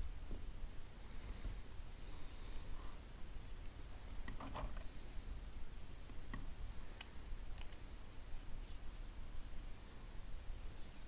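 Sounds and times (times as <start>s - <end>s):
low room noise rumble: 0.0s - 11.0s.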